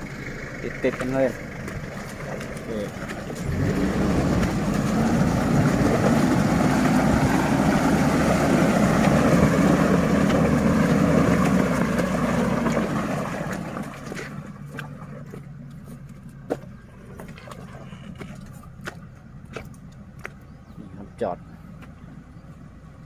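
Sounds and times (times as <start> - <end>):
pickup truck engine under load: 0.0 - 20.8.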